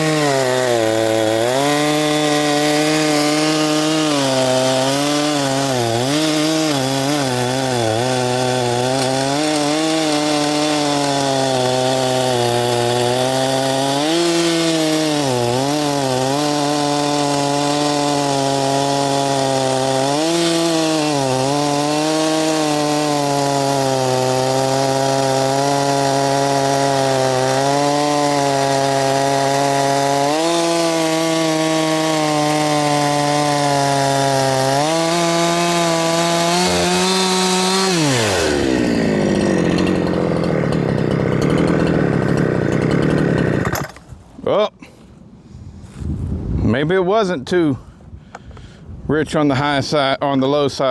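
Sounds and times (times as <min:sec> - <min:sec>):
chainsaw engine running fast: 0:00.0 - 0:44.0.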